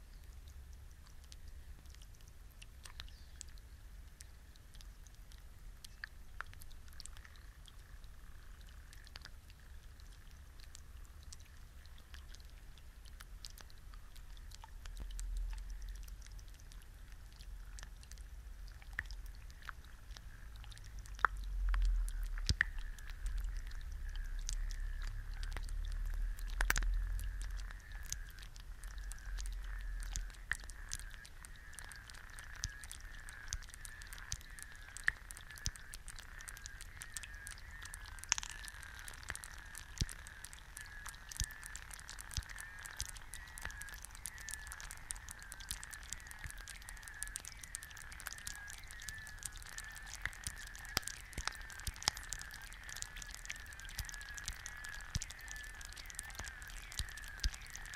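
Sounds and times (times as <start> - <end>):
egg frying with pops and crackles: 0.0 - 57.9.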